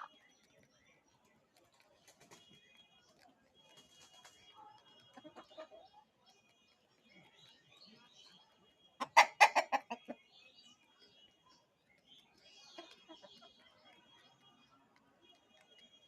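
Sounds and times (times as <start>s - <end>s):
chicken clucking: 0.0s - 16.0s.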